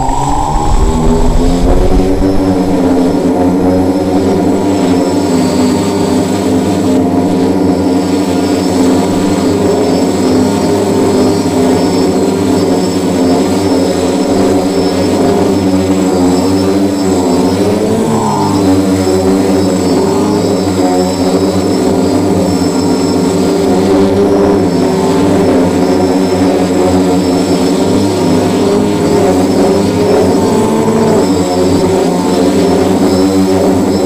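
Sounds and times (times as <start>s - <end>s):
quadcopter motors humming: 0.0s - 34.0s.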